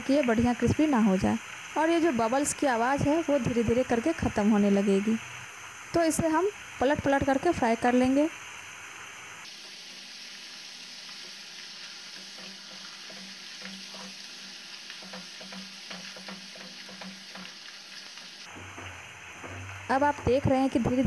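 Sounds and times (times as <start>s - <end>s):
oil sizzling and bubbling: 0.0s - 21.0s.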